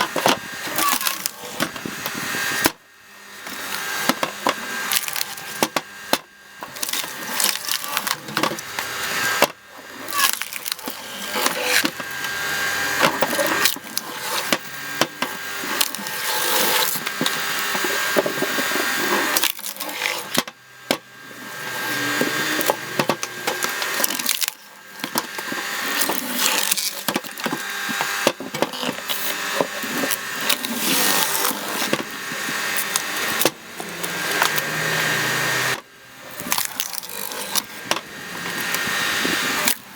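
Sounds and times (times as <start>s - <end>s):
wood cracking and splintering: 0.0s - 2.8s, 3.4s - 39.9s
faint motor whine: 0.0s - 39.9s.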